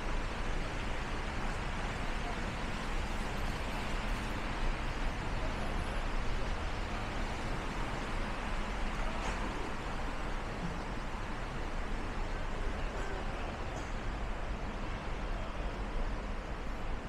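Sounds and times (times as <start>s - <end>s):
steady rain: 0.0s - 17.0s
street traffic rumble: 0.0s - 17.0s.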